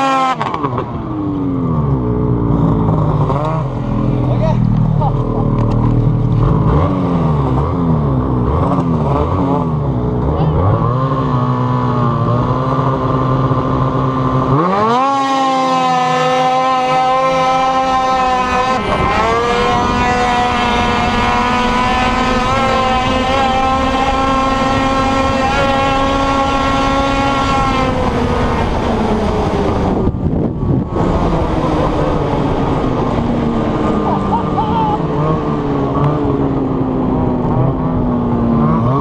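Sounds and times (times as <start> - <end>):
snowmobile engine wailing: 0.0 - 39.0.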